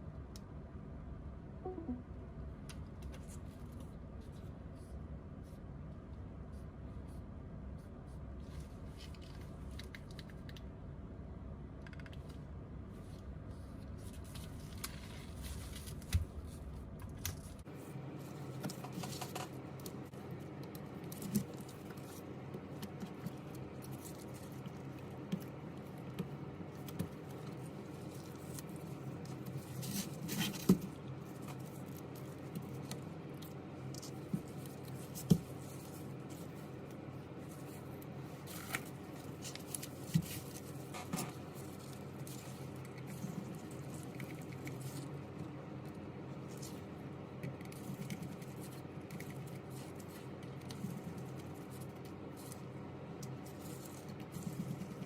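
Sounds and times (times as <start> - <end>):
faint steady background hum: 0.0 - 55.0.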